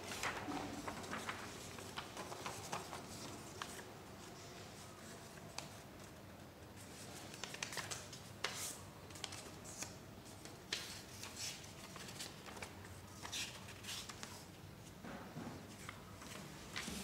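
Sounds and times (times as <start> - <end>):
paper rustling and crinkling: 0.0 - 6.2, 6.8 - 14.5, 15.7 - 17.0.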